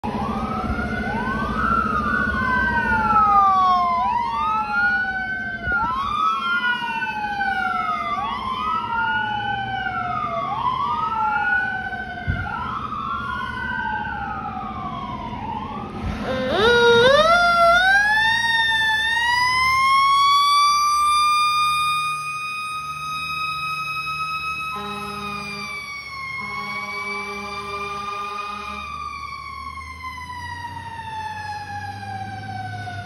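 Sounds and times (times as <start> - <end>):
siren wailing: 0.0 - 33.0.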